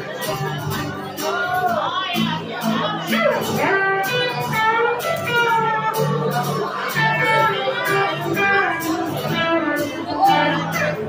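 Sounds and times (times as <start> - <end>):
acoustic guitar strummed: 0.0 - 11.0
electric guitar playing: 0.0 - 11.0.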